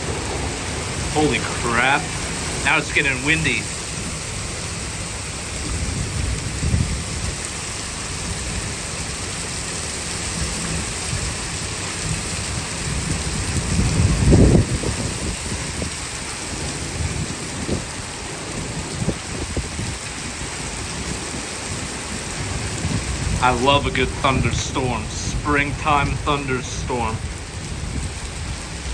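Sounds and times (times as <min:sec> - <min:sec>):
heavy rain falling: 0:00.0 - 0:28.9
wind: 0:00.0 - 0:28.9.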